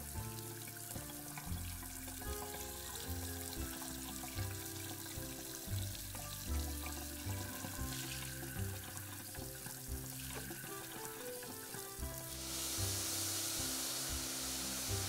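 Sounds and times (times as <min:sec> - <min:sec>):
background music with bass line: 0:00.0 - 0:15.0
loud hissing sizzle: 0:00.0 - 0:15.0
semolina sizzling softly: 0:00.0 - 0:15.0.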